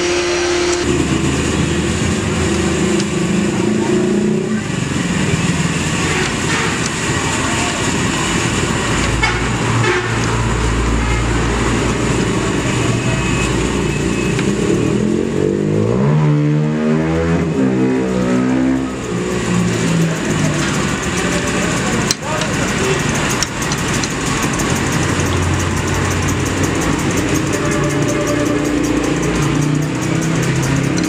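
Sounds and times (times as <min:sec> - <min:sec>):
motor traffic noise: 0:00.0 - 0:31.0
vehicle engine revving: 0:00.0 - 0:31.0.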